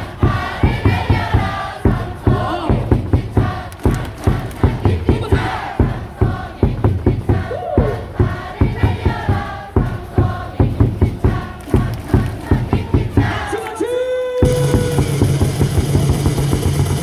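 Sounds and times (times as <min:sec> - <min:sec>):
crowd singing and chanting: 0:00.0 - 0:17.0
steady loud beat: 0:00.0 - 0:17.0.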